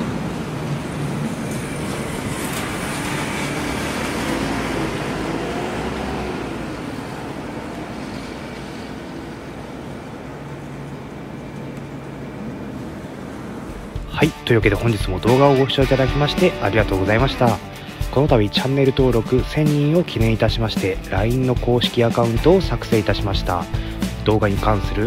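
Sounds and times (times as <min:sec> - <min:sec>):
jet aircraft roar: 0:00.0 - 0:25.0.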